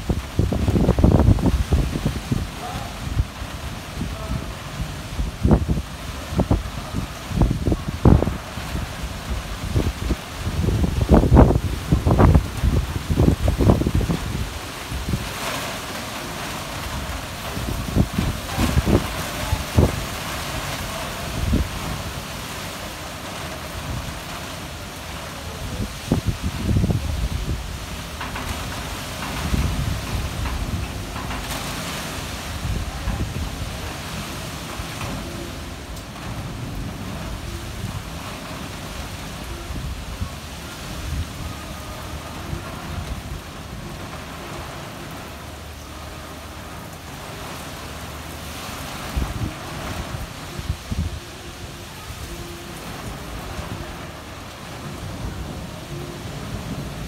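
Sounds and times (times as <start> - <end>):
heavy rain hissing: 0.0 - 57.0
low rumbling: 0.0 - 57.0
wind buffeting microphone: 0.0 - 57.0.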